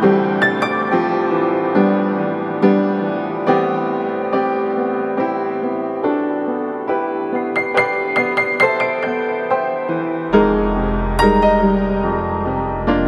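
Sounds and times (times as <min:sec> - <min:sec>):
slow piano chords ringing: 0:00.0 - 0:13.0.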